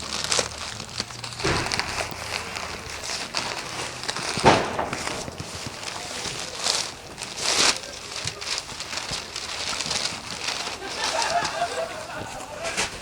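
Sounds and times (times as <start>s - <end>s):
packaging crackle: 0.0s - 11.9s
packaging crinkling and rustling: 0.0s - 13.0s.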